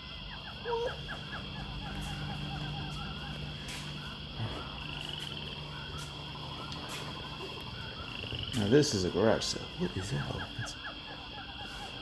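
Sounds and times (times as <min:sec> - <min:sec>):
steady high-pitched drone: 0:00.0 - 0:12.0.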